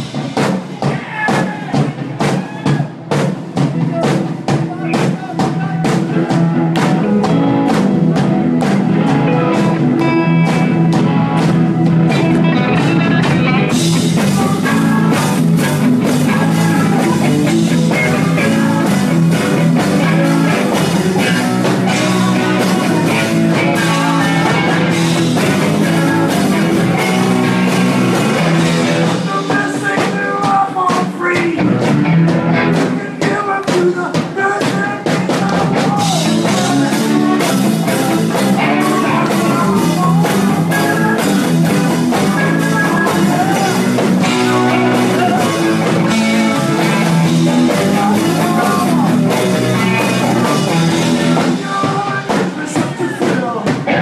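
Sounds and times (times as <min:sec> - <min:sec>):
drum kit: 0:00.0 - 0:54.0
live rock band playing: 0:00.0 - 0:54.0
electric guitar: 0:01.7 - 0:54.0.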